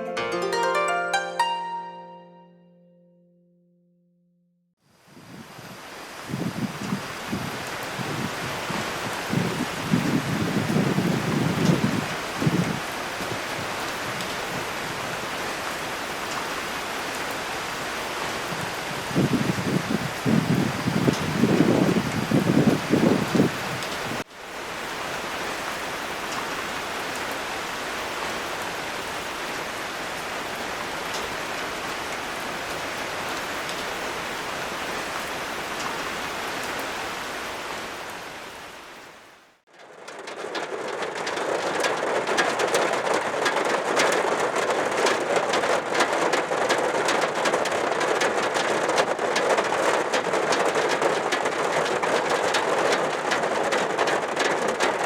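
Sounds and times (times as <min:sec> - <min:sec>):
heavy rain hiss and patter: 0:05.0 - 0:55.0.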